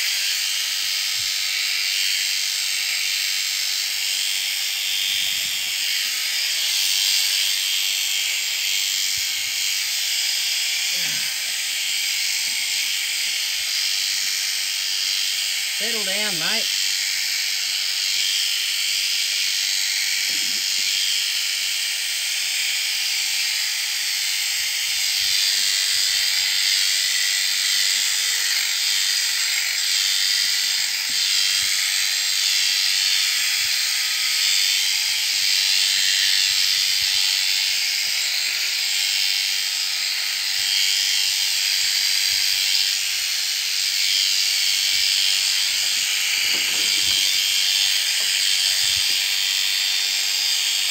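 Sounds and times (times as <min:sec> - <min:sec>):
electric shears buzzing: 0:00.0 - 0:50.9.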